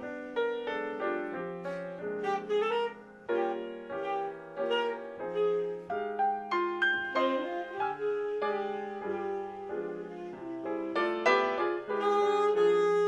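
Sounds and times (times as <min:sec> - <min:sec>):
piano chords: 0:00.0 - 0:13.0
saxophone melody: 0:00.0 - 0:13.0.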